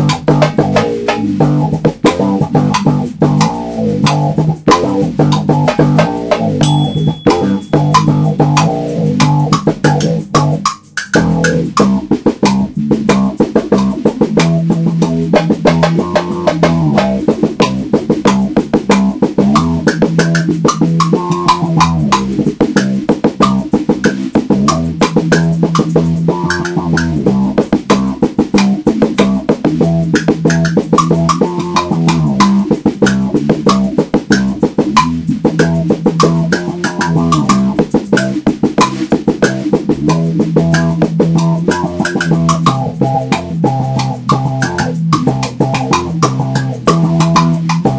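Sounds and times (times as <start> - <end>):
bass guitar: 0.0 - 47.9
drum-kit beat: 0.0 - 47.9
guitar: 0.0 - 47.9.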